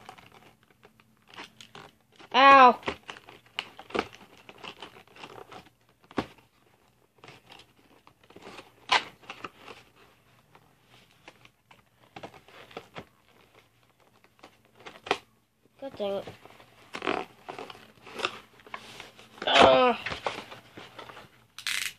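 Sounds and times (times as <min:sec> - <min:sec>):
packaging rustling and crinkling: 0:00.0 - 0:21.9.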